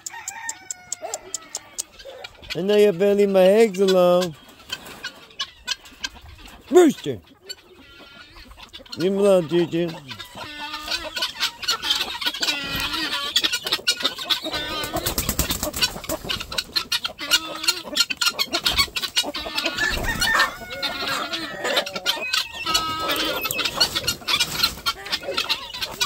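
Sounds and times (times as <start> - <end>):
chickens clucking and squawking: 0.0 - 26.0.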